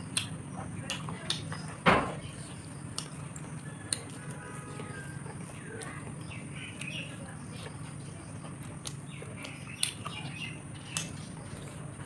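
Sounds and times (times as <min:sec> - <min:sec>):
chewing and lip smacks: 0:00.0 - 0:01.7, 0:02.4 - 0:12.0
birds chirping faintly: 0:00.0 - 0:12.0
steady low hum: 0:00.0 - 0:12.0.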